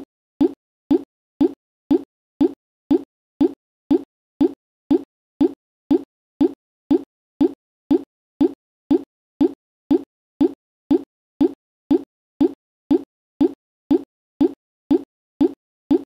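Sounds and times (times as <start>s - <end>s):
electronic plop sound: 0.0s - 16.0s.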